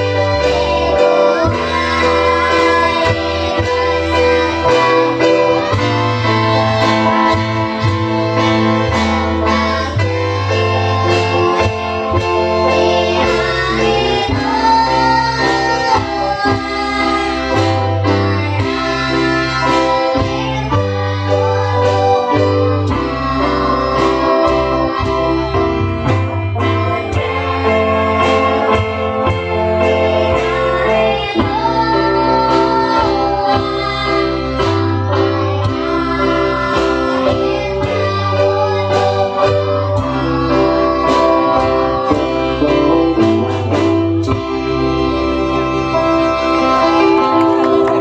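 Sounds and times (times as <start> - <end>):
young singers singing duet: 0.0 - 43.6
instrumental accompaniment: 0.0 - 48.0
steady bass line: 0.0 - 48.0.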